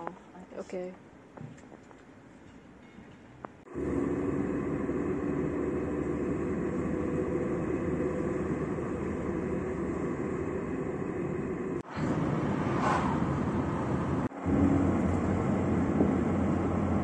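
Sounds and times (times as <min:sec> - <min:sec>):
car road and engine noise: 0:03.4 - 0:17.0.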